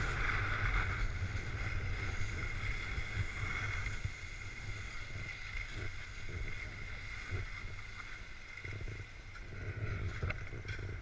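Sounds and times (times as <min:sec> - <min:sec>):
skis scraping over packed snow: 0:00.0 - 0:11.0
wind rumbling on microphone: 0:00.0 - 0:11.0.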